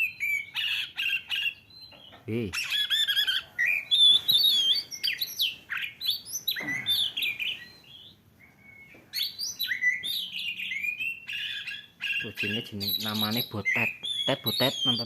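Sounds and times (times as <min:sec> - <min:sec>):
bird chirps from a phone speaker: 0:00.0 - 0:15.0.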